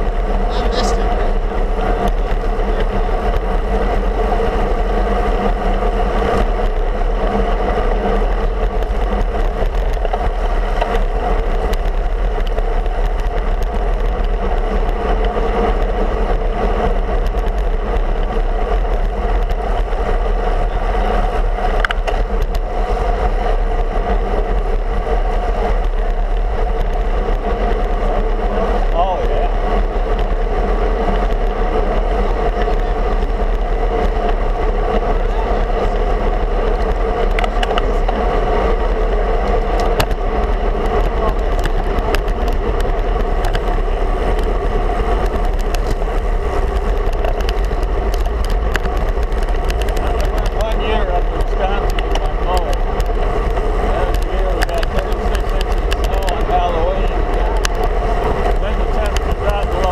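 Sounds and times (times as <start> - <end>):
rolling road noise: 0.0 - 59.9
wind noise on microphone: 0.0 - 59.9.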